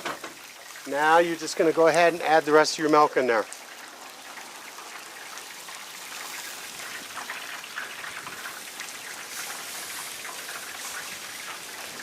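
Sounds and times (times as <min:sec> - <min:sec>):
roux sizzling in a skillet: 0:00.0 - 0:12.0.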